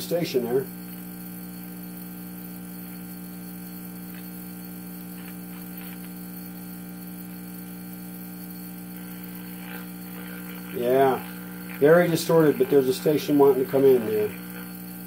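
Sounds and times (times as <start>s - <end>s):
faint distorted radio station: 0.0s - 15.0s
radio hum: 0.0s - 15.0s.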